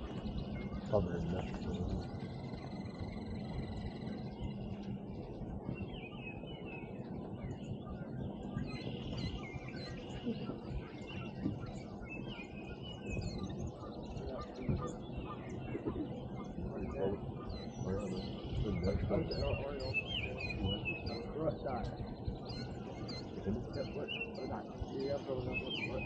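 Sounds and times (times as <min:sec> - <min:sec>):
low background rumble: 0:00.0 - 0:26.0
songbirds chirping and singing: 0:00.0 - 0:26.0.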